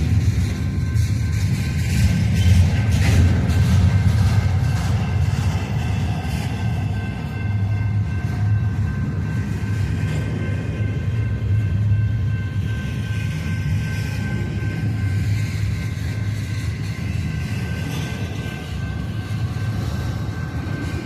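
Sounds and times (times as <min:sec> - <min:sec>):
faint steady tones: 0:00.0 - 0:21.0
freight train wheels rumbling: 0:00.0 - 0:21.0.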